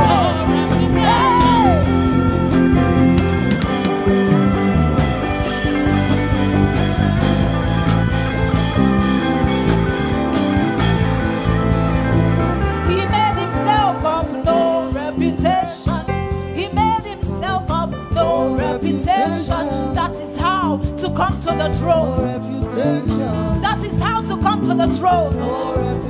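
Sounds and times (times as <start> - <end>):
band playing instrumental: 0.0 - 26.0.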